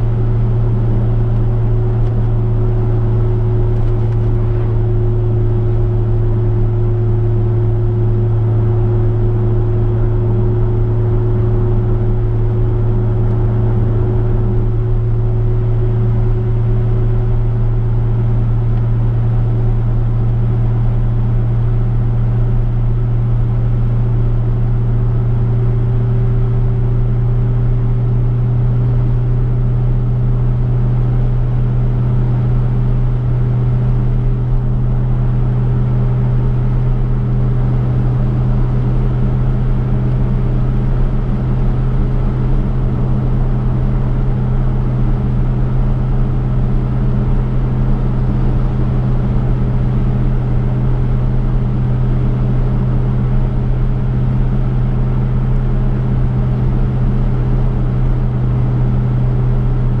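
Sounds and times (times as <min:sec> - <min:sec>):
road noise: 0:00.0 - 0:27.4, 0:31.3 - 1:00.0
car engine droning: 0:00.0 - 1:00.0.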